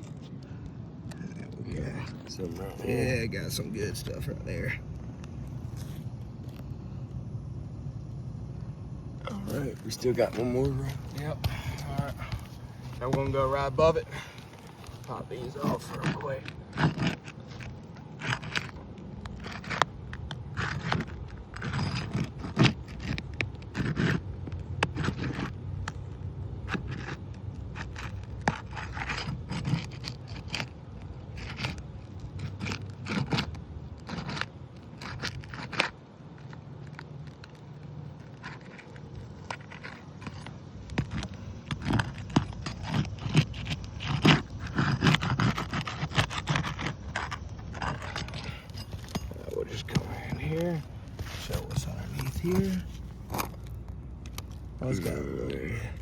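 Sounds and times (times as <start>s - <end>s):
shingles scraping and cracking: 9.4s - 56.0s.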